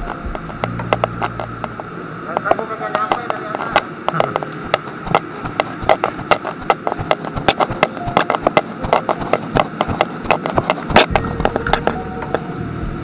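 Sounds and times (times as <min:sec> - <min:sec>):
footsteps going down stairs: 0:00.0 - 0:01.9, 0:03.0 - 0:13.0.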